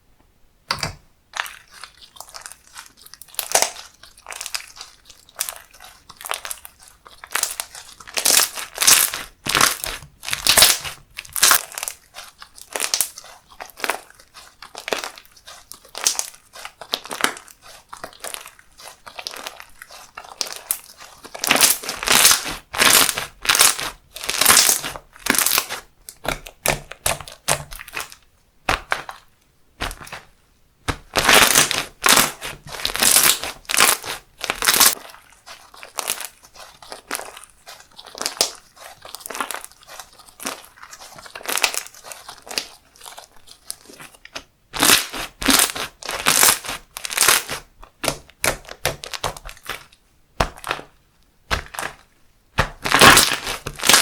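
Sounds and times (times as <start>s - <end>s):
slime crackling and popping: 0.7s - 54.0s.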